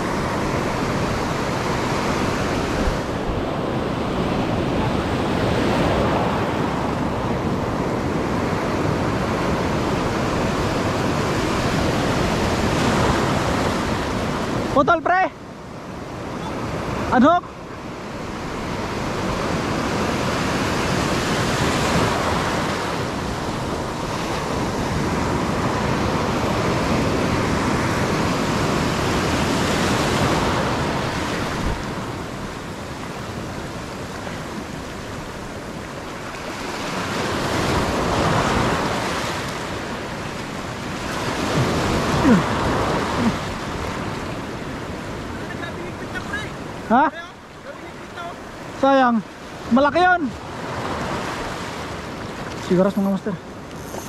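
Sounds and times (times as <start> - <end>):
ocean surf on rocky shore: 0.0 - 54.0.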